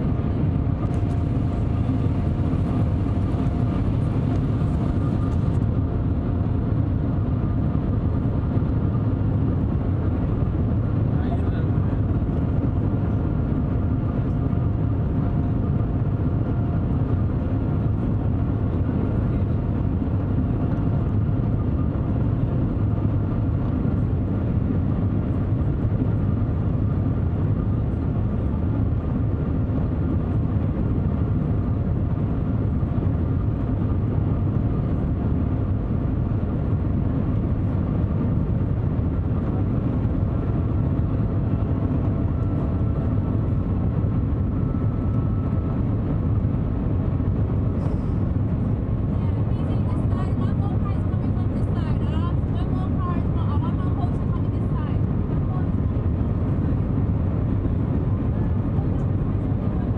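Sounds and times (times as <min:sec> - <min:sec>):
faint steady whine: 0:00.0 - 0:59.9
train cabin rumble at speed: 0:00.0 - 0:59.9.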